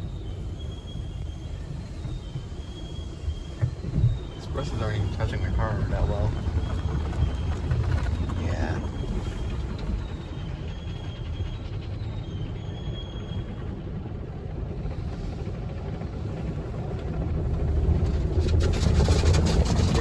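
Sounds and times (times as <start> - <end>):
faint high whine: 0.0 - 17.2
car wash machinery rumble: 0.0 - 20.0.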